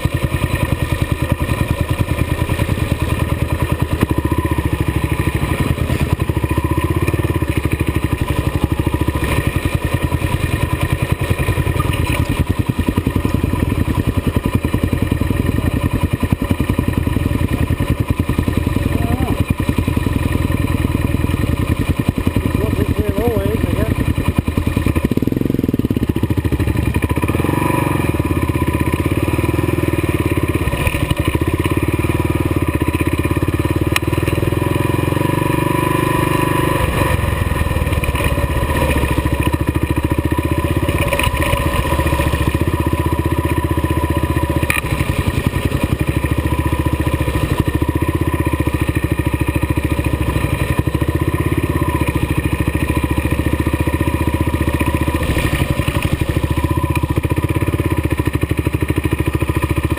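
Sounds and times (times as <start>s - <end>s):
motorcycle clattering over bumps: 0.0s - 59.9s
motorcycle engine running: 0.0s - 59.9s.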